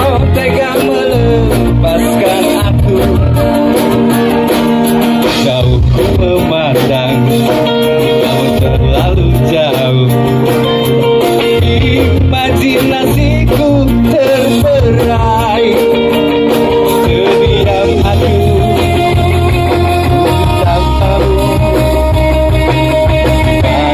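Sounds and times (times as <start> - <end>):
guitar: 0.0 - 23.9
heavy bass line: 0.0 - 23.9
live band music: 0.0 - 23.9
person singing: 0.0 - 23.9.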